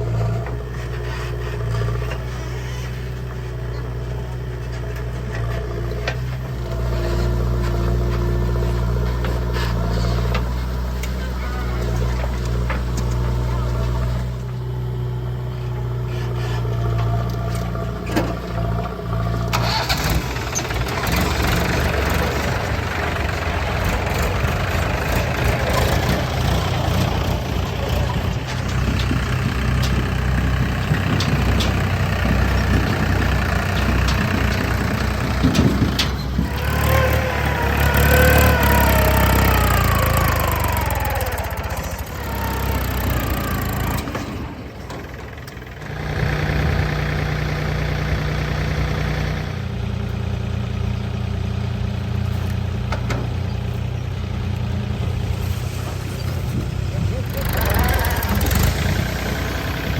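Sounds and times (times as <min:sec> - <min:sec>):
diesel machinery engines running: 0:00.0 - 0:59.9.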